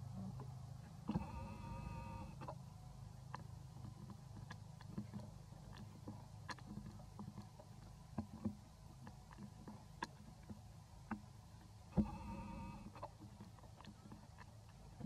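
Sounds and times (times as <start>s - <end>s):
low steady rumble: 0.0s - 15.0s
small clicks and ticks: 0.2s - 15.0s.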